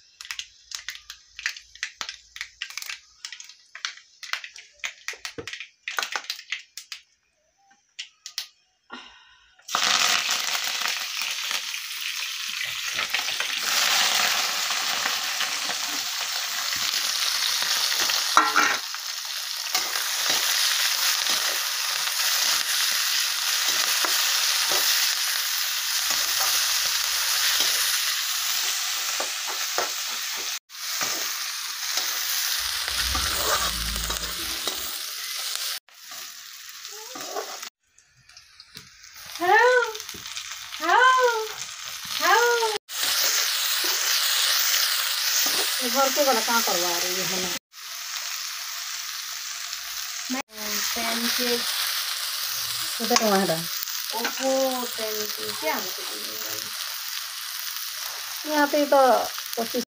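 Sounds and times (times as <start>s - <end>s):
onions sizzling in hot oil: 0.0s - 6.6s, 9.7s - 59.9s.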